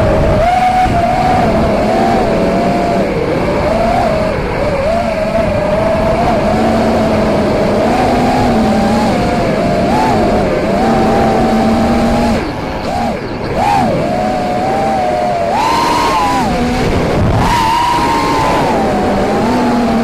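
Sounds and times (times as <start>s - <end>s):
model aircraft motors whining: 0.0s - 20.0s
wind rumble on microphone: 0.0s - 20.0s.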